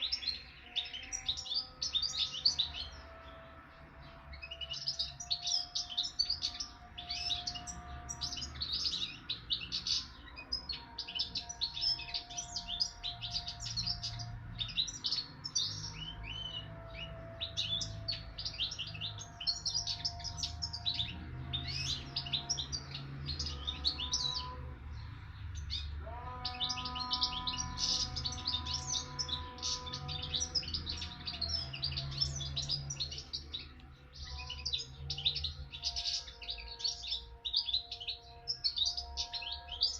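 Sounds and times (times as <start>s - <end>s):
songbird twittering: 4.0s - 39.9s.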